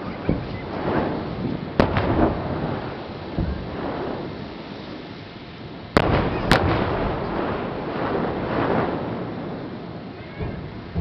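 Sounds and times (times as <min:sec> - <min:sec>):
long rolling rumble: 0:00.0 - 0:11.0
sharp firework explosions: 0:00.0 - 0:11.0.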